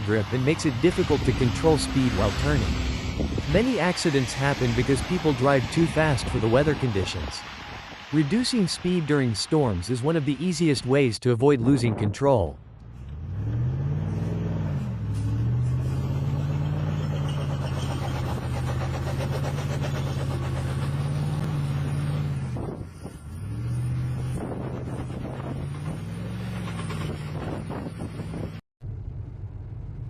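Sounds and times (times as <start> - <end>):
vehicle engine revving: 0.0 - 10.4, 12.7 - 28.6.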